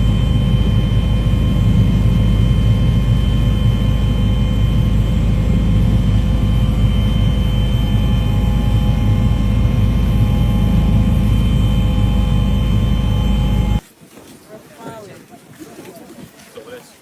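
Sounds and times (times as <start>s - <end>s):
aircraft engine rumble and whine: 0.0s - 13.8s.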